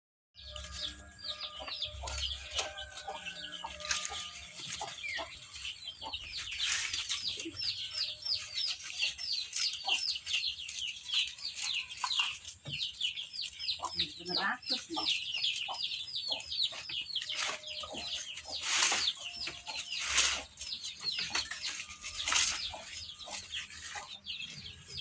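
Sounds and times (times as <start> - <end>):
chickens clucking: 0.4 - 25.0
chicks peeping: 0.4 - 25.0.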